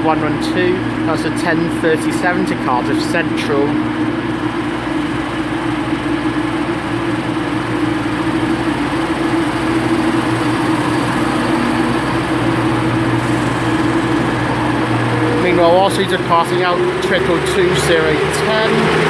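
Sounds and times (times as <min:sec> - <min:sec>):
train diesel engines idling: 0:00.0 - 0:19.0.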